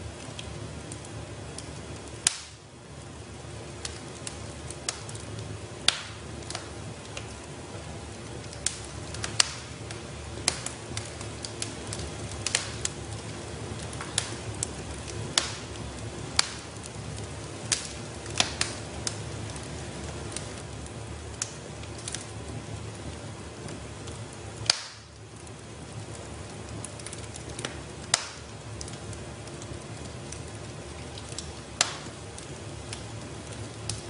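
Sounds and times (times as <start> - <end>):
fire crackling and popping: 0.0 - 34.0
low rumble of flames: 0.0 - 34.0.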